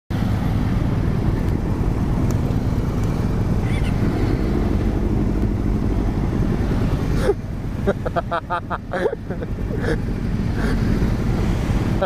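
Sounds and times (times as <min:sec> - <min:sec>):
motorcycle engines running at low revs: 0:00.2 - 0:12.0.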